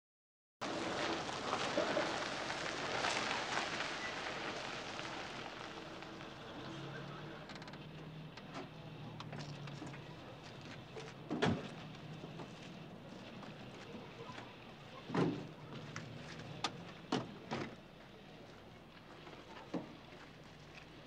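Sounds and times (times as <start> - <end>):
car engine idling: 0.6 - 21.0
tyres crunching on grit: 0.6 - 21.0.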